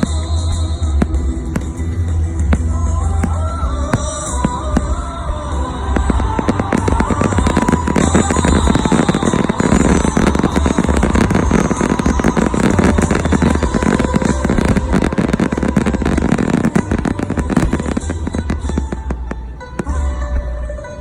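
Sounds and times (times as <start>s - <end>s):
fireworks cracking and popping: 0.0s - 21.0s
music with low bass: 0.0s - 21.0s.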